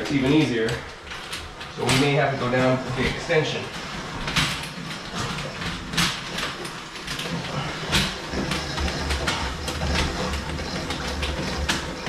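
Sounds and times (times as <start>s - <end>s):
auger cable clattering in metal tube: 0.0s - 12.0s.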